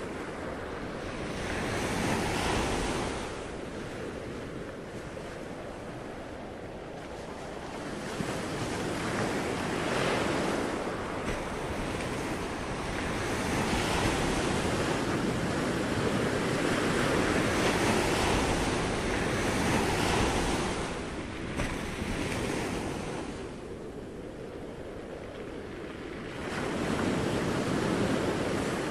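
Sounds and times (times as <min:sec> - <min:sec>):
ocean surf rushing: 0:00.0 - 0:28.9.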